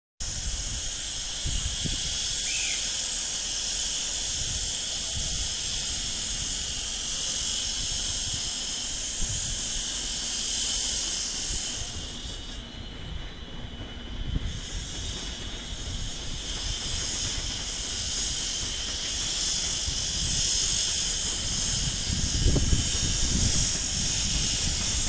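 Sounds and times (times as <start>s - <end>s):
high whooshing hiss: 0.2s - 25.0s
low train rumble: 0.2s - 25.0s.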